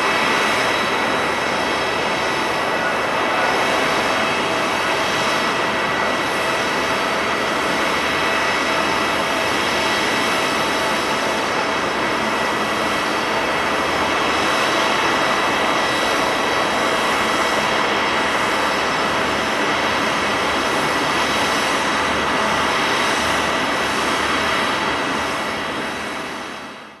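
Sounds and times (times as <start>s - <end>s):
jet engines whining at taxi: 0.0s - 27.0s.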